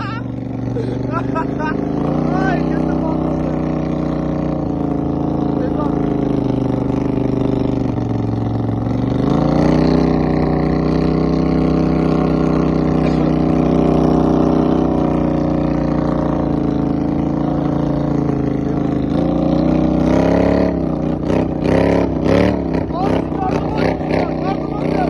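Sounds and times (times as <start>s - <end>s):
vehicle engine revving under load: 0.0s - 25.0s.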